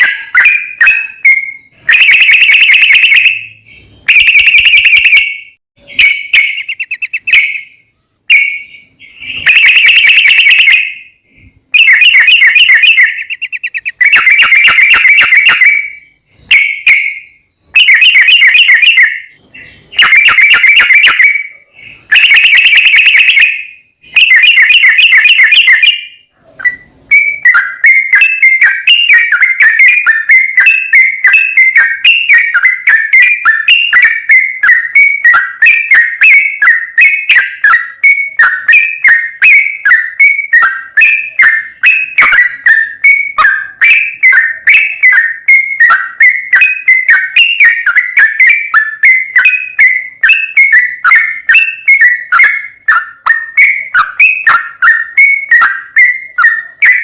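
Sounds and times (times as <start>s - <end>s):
bird singing rapid chirps: 0.0s - 57.0s.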